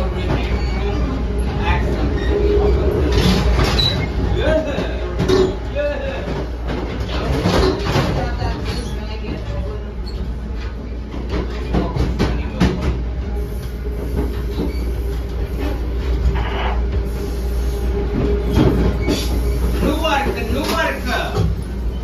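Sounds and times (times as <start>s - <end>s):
train car rumbling on track: 0.0s - 22.0s.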